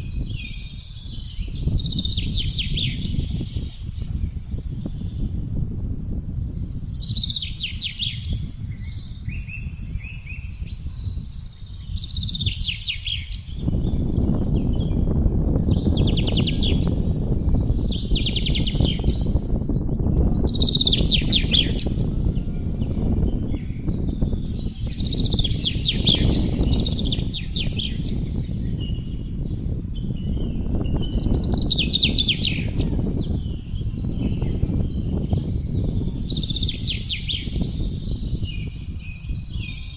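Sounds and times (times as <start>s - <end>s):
songbirds singing: 0.0s - 39.9s
wind blowing: 0.0s - 39.9s.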